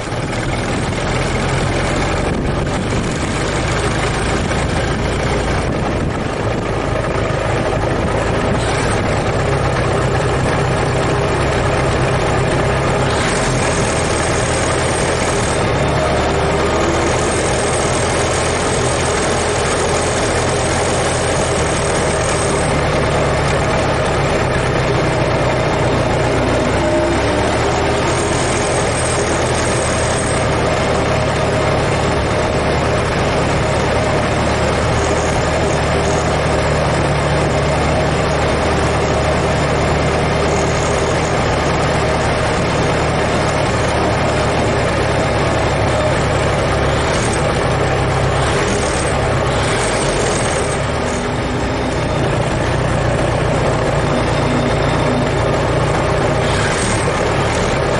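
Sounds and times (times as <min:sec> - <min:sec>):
car engine running: 0:00.0 - 0:57.9.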